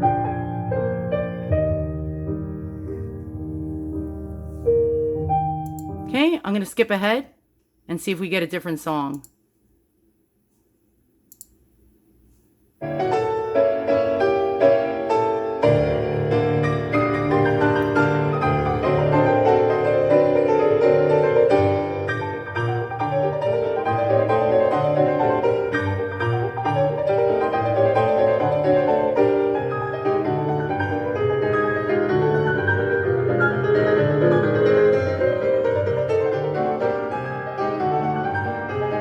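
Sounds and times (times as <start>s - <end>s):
solo piano music: 0.0s - 6.1s, 12.8s - 39.0s.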